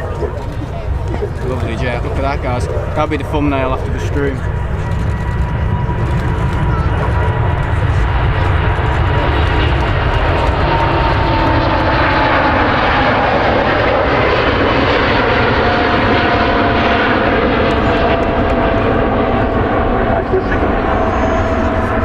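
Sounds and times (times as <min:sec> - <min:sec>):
jet airliner taking off: 0:00.0 - 0:22.0.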